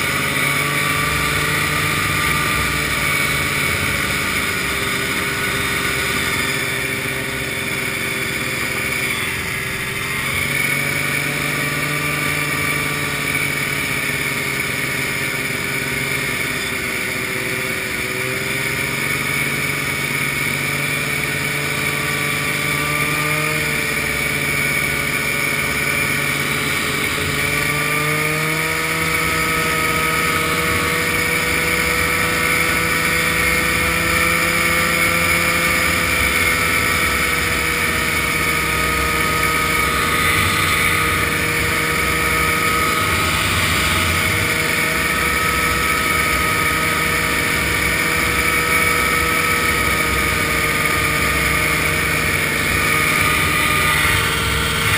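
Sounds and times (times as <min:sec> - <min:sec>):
snowmobile engine running: 0:00.0 - 0:54.9
wind and road noise: 0:00.0 - 0:54.9.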